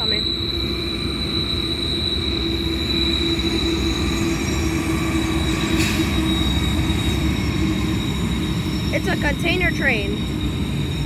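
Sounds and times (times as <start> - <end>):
freight train rumbling past: 0.0 - 11.0
high-pitched squeal: 0.0 - 11.0.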